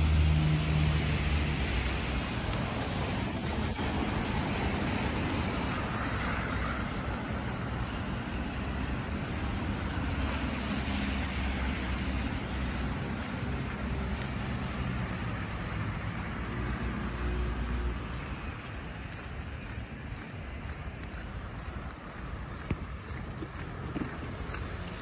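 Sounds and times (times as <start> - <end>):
vehicles passing on wet road: 0.0 - 25.0.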